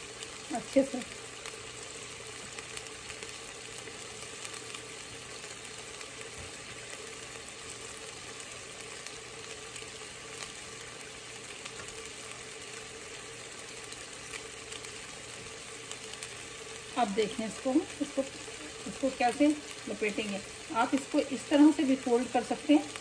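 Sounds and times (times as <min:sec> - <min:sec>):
faint steady hum: 0:00.0 - 0:23.0
paste sizzling in oil: 0:00.0 - 0:23.0.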